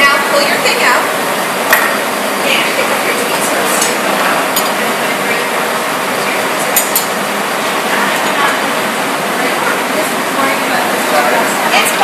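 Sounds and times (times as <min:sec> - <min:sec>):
gas furnace roaring: 0:00.0 - 0:12.0.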